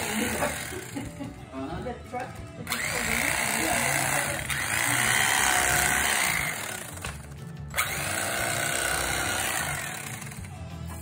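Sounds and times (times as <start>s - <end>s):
electric carving knife running: 0.0s - 1.2s, 2.7s - 10.6s.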